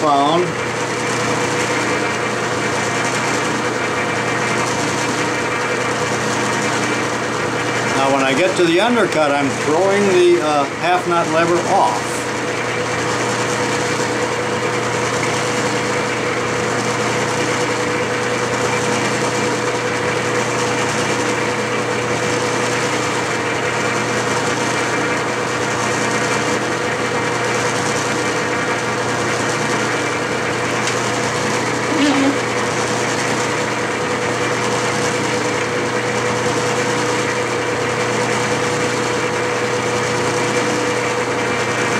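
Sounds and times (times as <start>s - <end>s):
metal lathe running: 0.0s - 41.9s.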